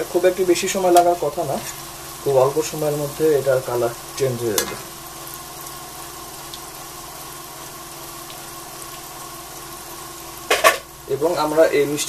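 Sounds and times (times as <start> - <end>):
dough frying in oil: 0.0 - 12.0
steady mechanical hum: 0.0 - 12.0.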